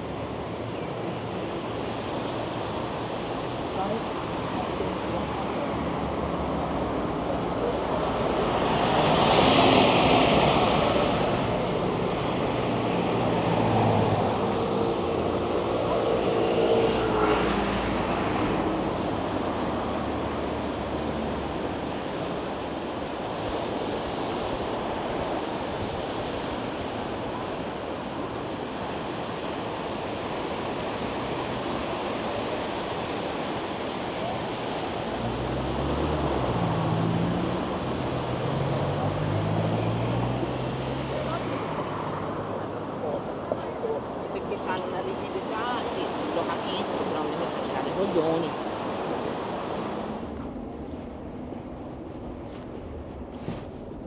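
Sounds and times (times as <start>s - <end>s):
city traffic noise: 0.0s - 54.0s
vehicles passing close by: 0.0s - 54.0s.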